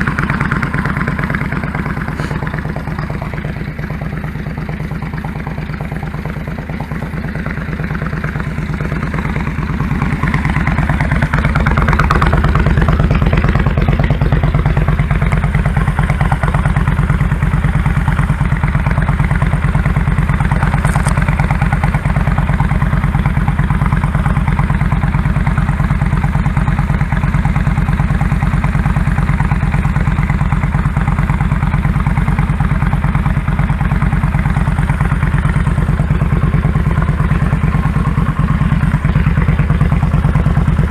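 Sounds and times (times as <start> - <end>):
motorcycle engine pulsing: 0.0 - 40.9.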